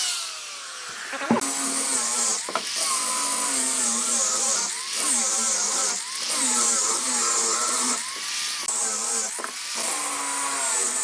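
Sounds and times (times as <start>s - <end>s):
power tool motor whine: 0.0s - 11.0s.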